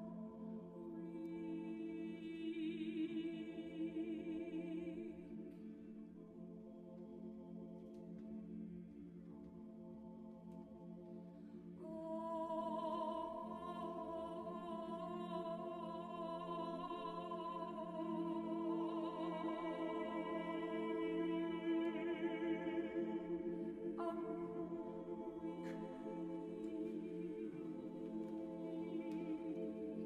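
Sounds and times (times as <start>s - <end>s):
choir singing a cappella: 0.0s - 30.0s.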